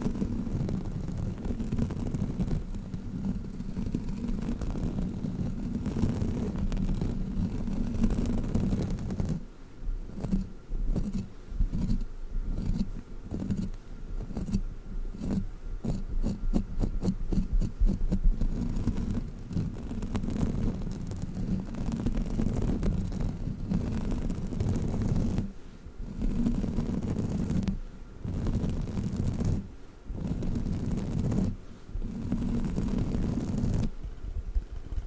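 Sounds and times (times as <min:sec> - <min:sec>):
toy rubbing against microphone: 0:00.0 - 0:09.5, 0:10.1 - 0:34.0.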